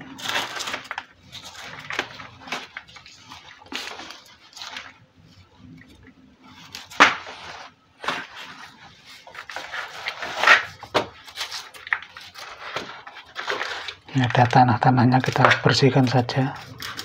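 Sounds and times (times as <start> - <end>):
knife scraping: 0.1 - 14.0, 15.3 - 17.0.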